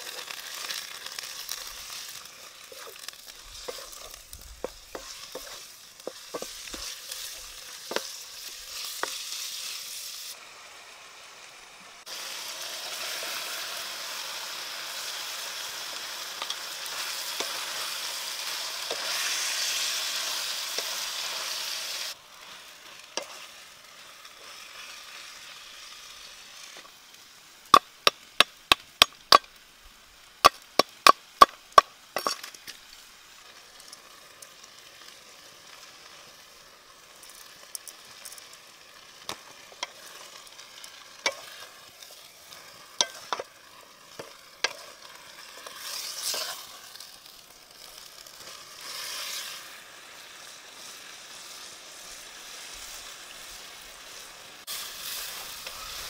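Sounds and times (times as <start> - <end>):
food sizzling in a wok: 0.0 - 56.0.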